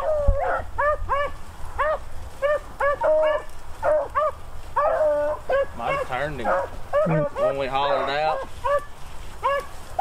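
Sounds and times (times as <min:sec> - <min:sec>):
beagles baying: 0:00.0 - 0:10.0.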